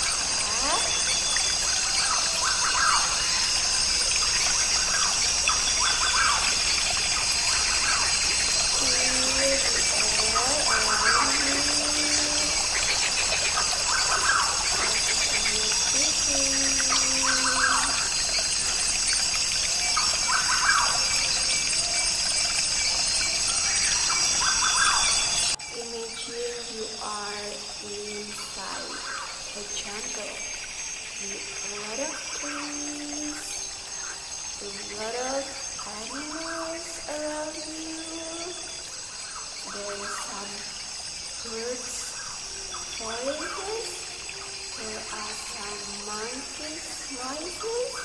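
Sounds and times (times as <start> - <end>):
descending bird calls: 0.0 - 48.0
insect drone: 0.0 - 48.0
running water: 0.0 - 48.0.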